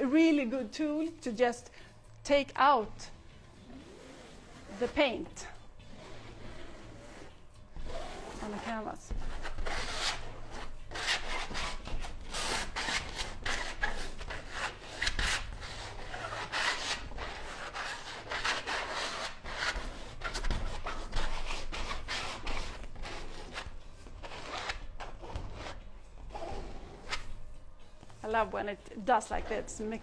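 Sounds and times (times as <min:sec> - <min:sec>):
rubber scraper scraping canvas: 0:03.6 - 0:27.4, 0:29.2 - 0:30.0.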